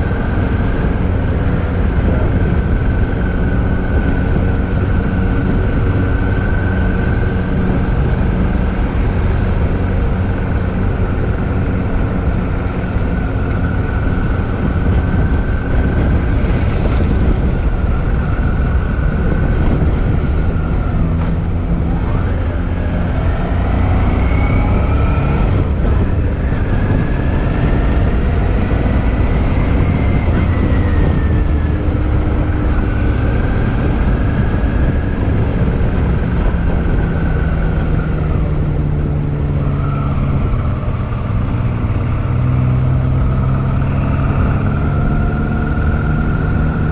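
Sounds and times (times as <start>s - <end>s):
motorcycle engine running: 0.0s - 46.9s
wind rush on microphone: 0.0s - 46.9s.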